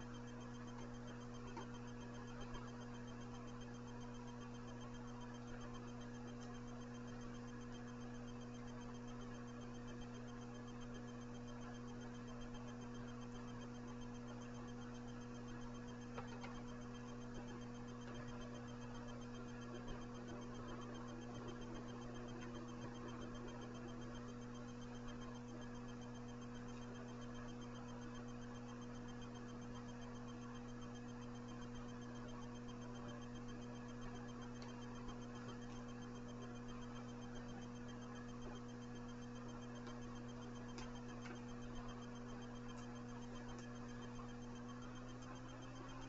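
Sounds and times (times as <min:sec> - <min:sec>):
low electrical mains hum: 0:00.0 - 0:46.0
faint ticks: 0:00.1 - 0:46.0.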